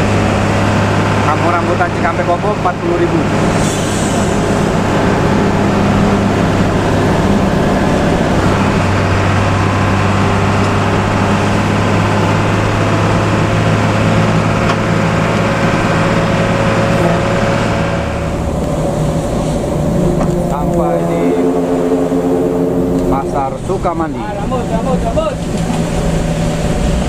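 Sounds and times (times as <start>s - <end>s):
bus diesel engine hum: 0.0s - 27.0s
road noise: 0.0s - 27.0s.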